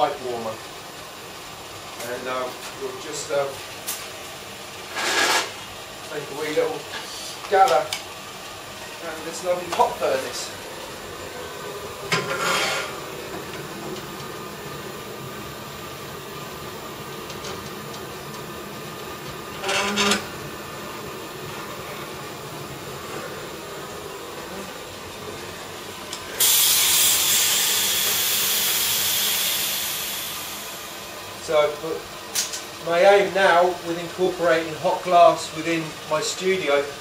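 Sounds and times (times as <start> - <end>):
furnace equipment hum: 0.0 - 37.0
hot glass hissing with steam: 0.0 - 37.0.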